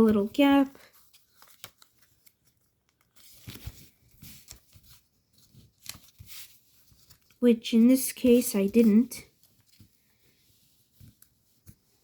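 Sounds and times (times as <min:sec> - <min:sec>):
paper crinkling and creasing: 0:00.0 - 0:12.0.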